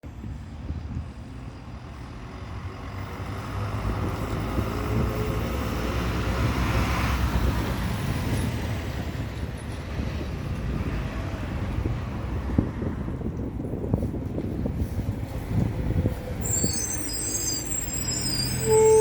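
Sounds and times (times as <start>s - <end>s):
bus engine from inside cabin: 0.0s - 19.0s.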